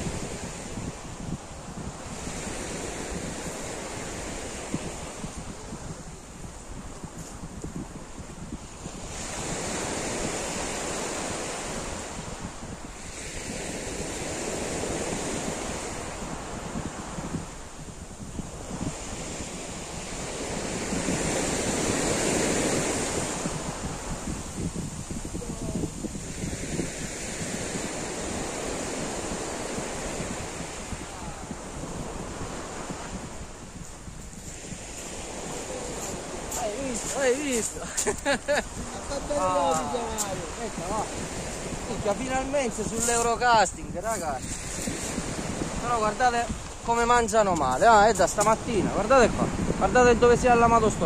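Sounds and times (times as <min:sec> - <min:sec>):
waves washing up pebble shore: 0:00.0 - 0:51.0
wind buffeting microphone: 0:00.0 - 0:51.0.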